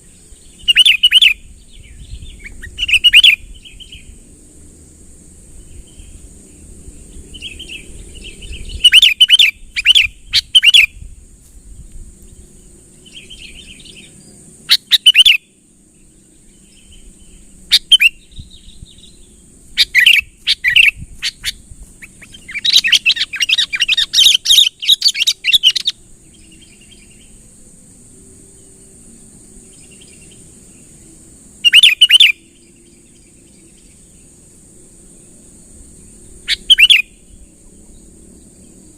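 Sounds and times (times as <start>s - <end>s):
steady high hiss: 0.0s - 38.9s.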